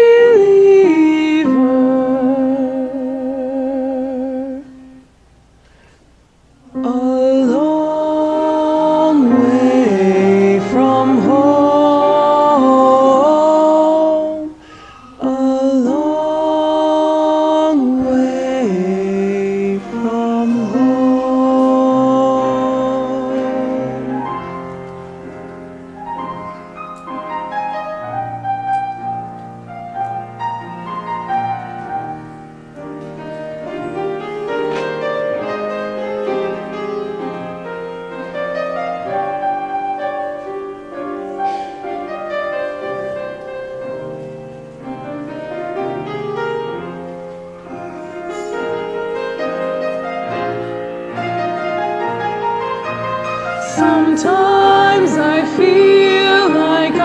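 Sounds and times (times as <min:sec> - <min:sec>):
slow piano playing: 0:00.0 - 0:05.3, 0:06.5 - 0:57.0.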